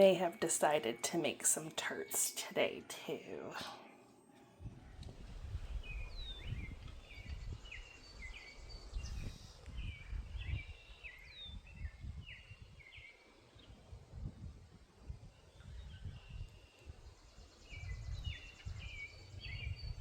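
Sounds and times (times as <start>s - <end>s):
birds chirping: 0.0s - 13.8s, 15.3s - 20.0s.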